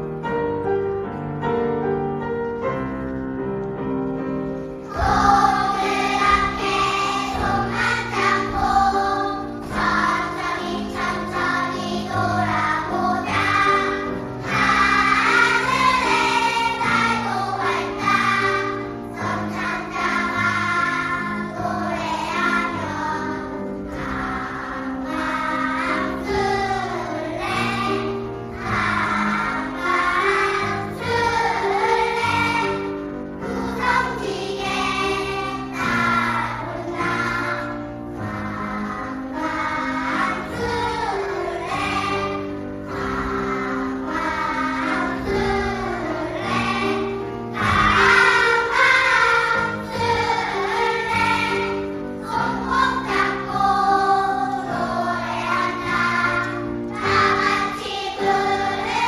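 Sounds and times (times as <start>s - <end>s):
choir singing: 4.8s - 59.0s.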